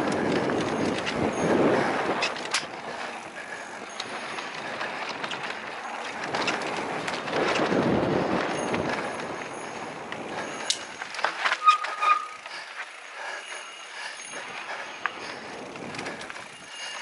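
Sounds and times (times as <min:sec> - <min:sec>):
wind buffeting microphone: 0:00.0 - 0:11.5, 0:14.0 - 0:17.0
bike rattles and clicks: 0:00.0 - 0:17.0
tyres on dirt trail: 0:00.0 - 0:17.0.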